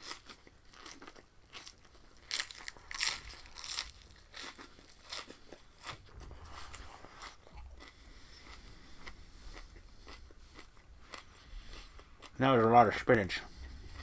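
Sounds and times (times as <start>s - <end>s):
chewing crunchy spinach stalks: 0.0s - 14.0s.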